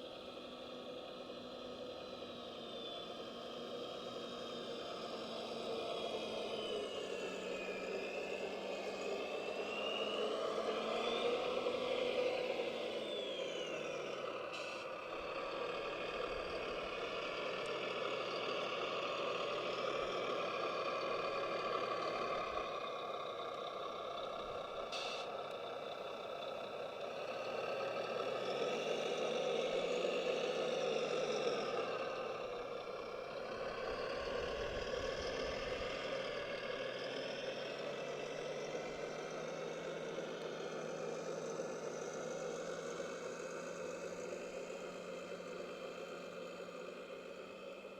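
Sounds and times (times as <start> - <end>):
model truck motor droning: 0.0 - 47.9.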